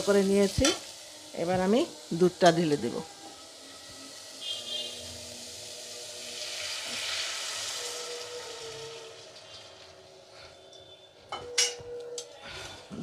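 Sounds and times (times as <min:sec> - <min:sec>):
milk sizzling in hot pan: 0:00.0 - 0:12.6.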